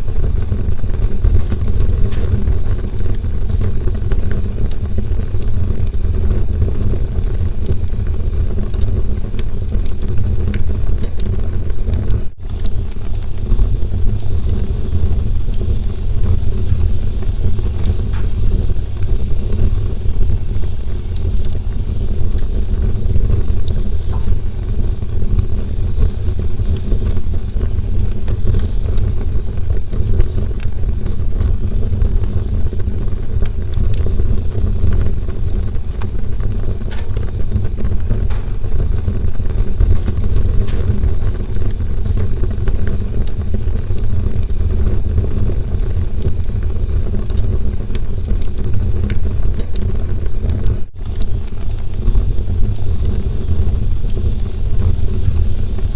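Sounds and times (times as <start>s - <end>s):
campfire low rumble: 0.0s - 55.9s
wood crackling and popping: 0.0s - 55.9s.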